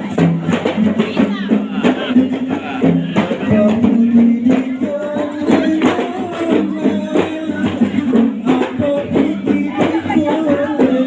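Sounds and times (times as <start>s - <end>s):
hand drum beats: 0.0s - 11.0s.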